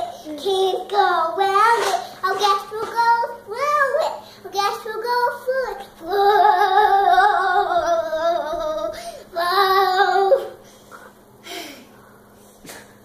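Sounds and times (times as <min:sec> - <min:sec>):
girl singing without words: 0:00.0 - 0:10.6.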